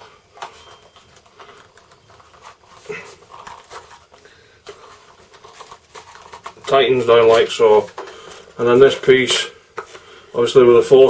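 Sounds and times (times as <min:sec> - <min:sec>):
plastic parts clicking and rubbing: 0:00.0 - 0:10.1.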